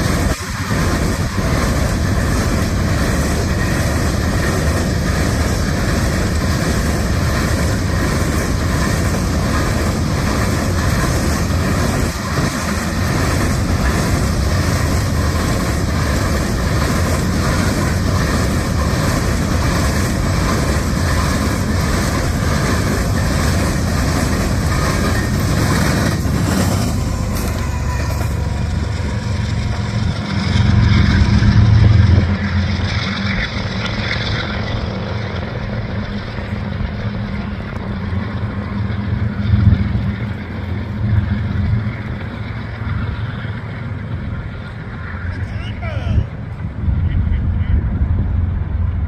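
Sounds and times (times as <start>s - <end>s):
low engine drone: 0.0s - 49.0s
train rumbling past: 0.0s - 49.0s.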